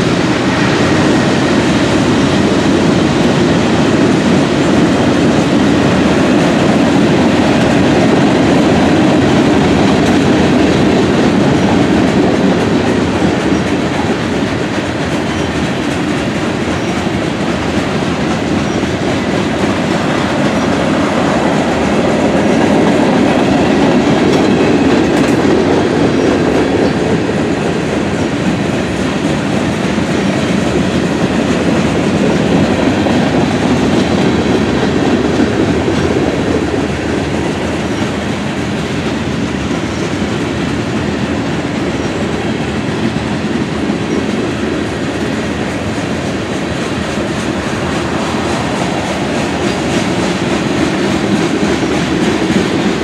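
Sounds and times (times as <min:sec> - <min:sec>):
diesel locomotives passing: 0:00.0 - 0:53.0
steel wheels on rail: 0:00.0 - 0:53.0.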